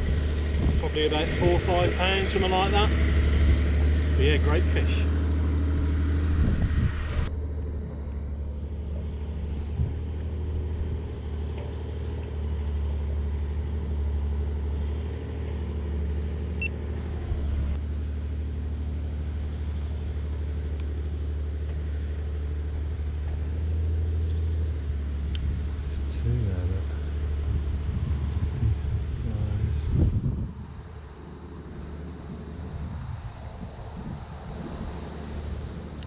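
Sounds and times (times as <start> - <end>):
distant digger diesel engine rumble: 0.0 - 36.0.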